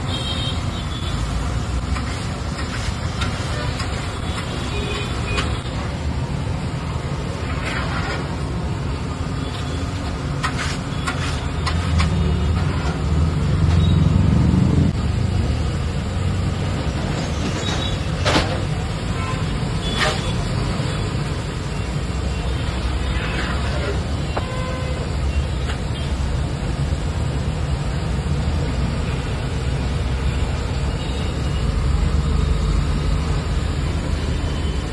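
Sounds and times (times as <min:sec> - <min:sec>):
street traffic: 0:00.0 - 0:34.9.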